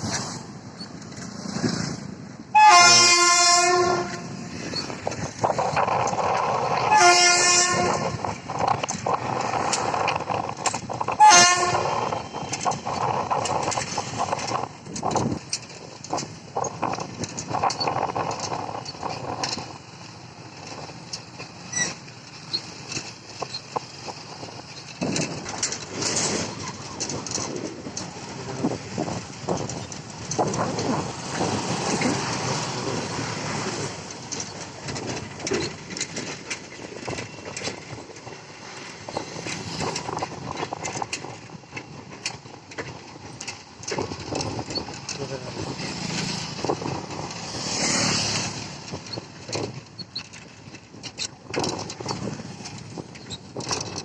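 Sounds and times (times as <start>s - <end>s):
passing vehicles: 0.0s - 54.0s
scattered clicks and knocks: 4.0s - 6.9s, 7.7s - 54.0s.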